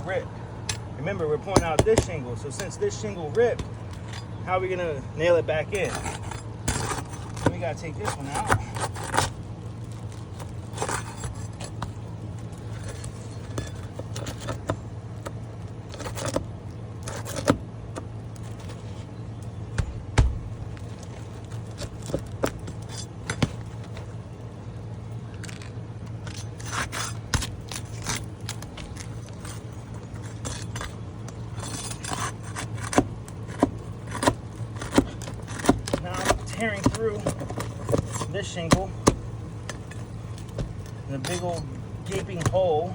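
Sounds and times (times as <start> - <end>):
steady low hum: 0.0 - 42.9
shingle ripping: 0.6 - 4.5, 5.6 - 42.9
shingle scraping and clicking: 0.6 - 4.8, 5.4 - 42.9.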